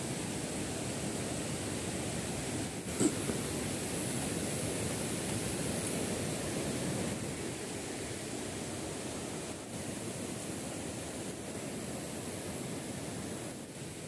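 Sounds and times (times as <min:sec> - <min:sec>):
river rushing over rapids: 0:00.0 - 0:14.0.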